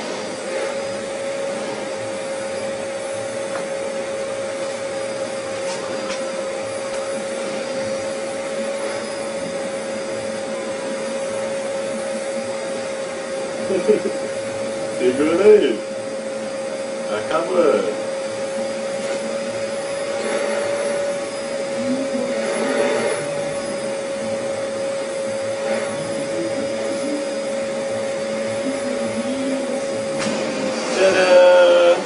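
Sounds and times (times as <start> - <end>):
vacuum cleaner whining: 0.0 - 32.0.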